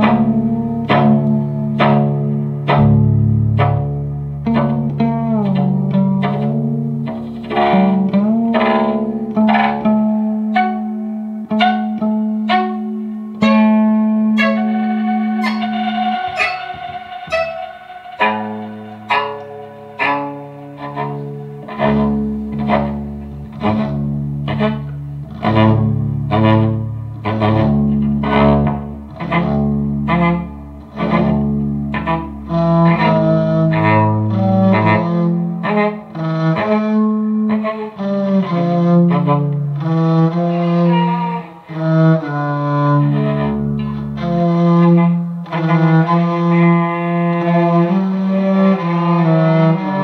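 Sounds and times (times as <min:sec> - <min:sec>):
cellos playing: 0:00.0 - 0:50.0.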